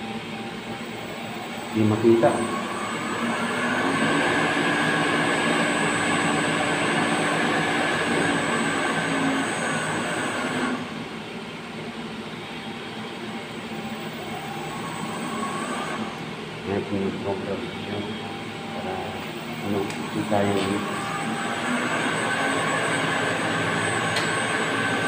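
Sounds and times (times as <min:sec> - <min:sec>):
electric machinery whine and hum: 0:00.0 - 0:25.0.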